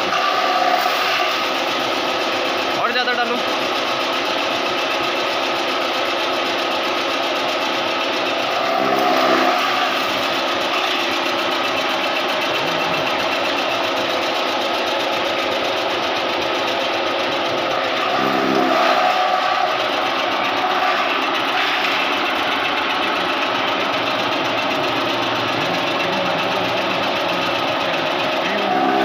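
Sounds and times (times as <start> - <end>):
chaff cutter motor running: 0.0 - 29.0.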